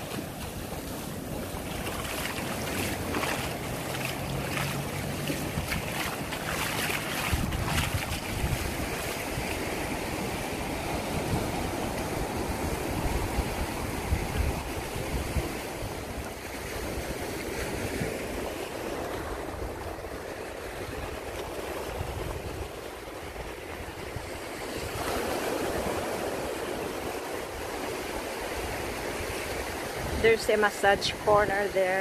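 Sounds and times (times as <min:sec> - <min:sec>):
wind on microphone: 0:00.0 - 0:18.6, 0:20.8 - 0:27.8, 0:28.5 - 0:32.0
surf washing on beach: 0:00.0 - 0:32.0.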